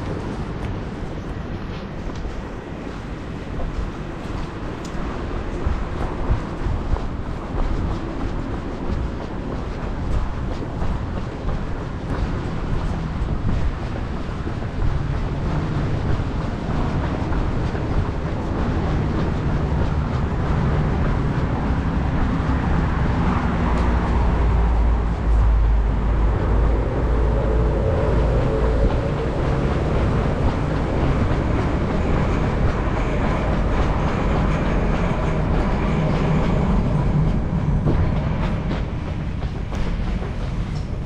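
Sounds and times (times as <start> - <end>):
train rumbling past: 0.0 - 41.0.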